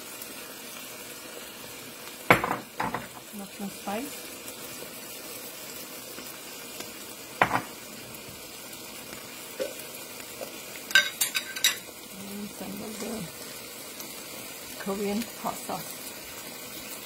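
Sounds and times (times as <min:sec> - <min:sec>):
onions sizzling in a wok: 0:00.0 - 0:17.0.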